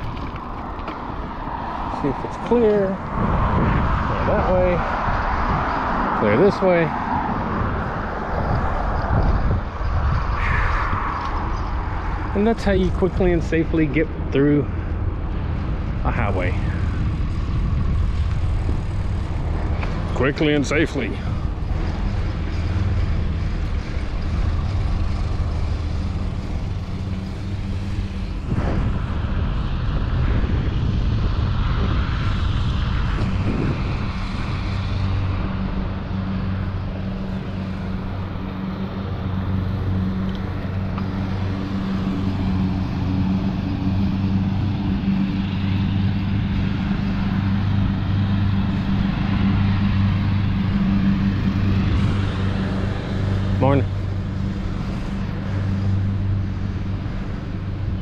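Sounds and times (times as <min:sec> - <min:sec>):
steady low hum: 0:00.0 - 0:58.0
wind and road noise: 0:00.0 - 0:58.0.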